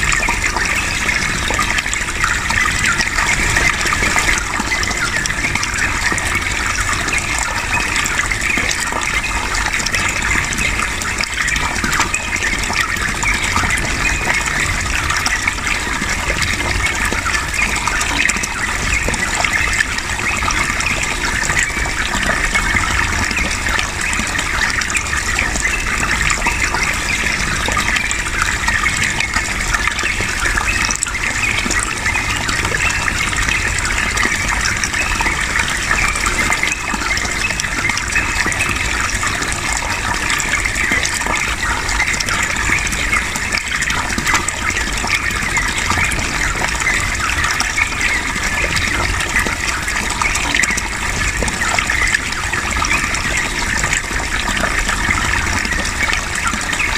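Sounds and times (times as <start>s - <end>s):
water rushing: 0.0s - 56.9s.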